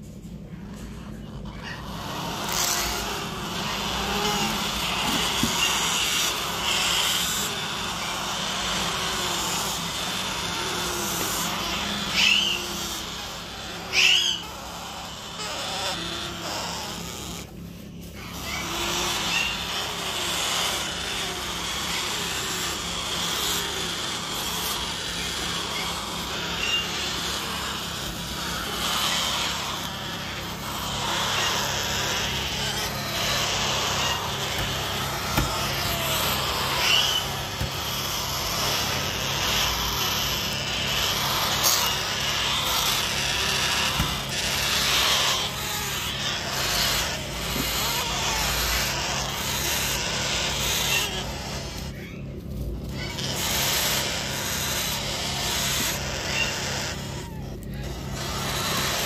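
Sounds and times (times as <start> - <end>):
parrot chicks begging calls: 0.0 - 59.0
steady low hum: 0.0 - 59.0.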